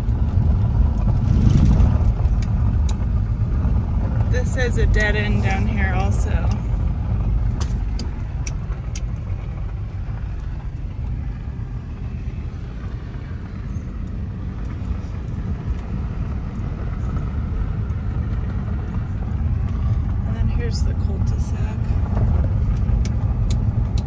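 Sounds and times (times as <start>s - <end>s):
car rumbling on gravel road: 0.0s - 24.0s.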